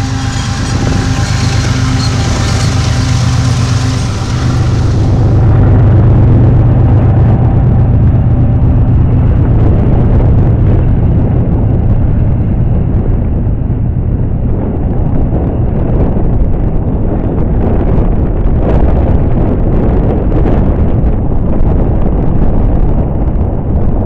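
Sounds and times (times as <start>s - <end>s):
locomotive engine drone: 0.0s - 20.6s
freight cars rumbling: 0.0s - 21.9s.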